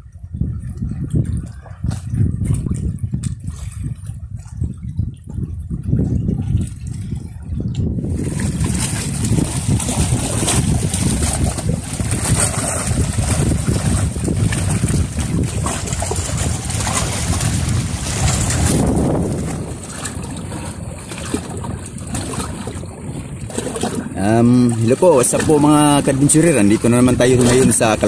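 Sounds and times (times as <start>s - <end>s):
seawater sloshing and splashing: 0.0s - 28.0s
wind buffeting microphone: 0.0s - 28.0s.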